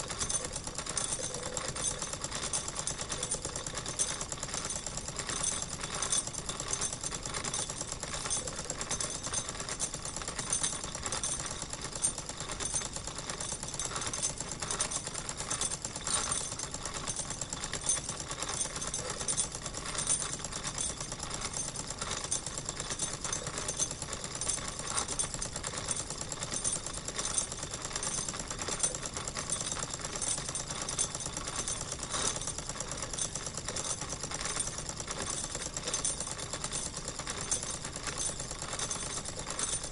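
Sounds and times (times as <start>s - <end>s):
model steam engine clattering: 0.0s - 39.9s.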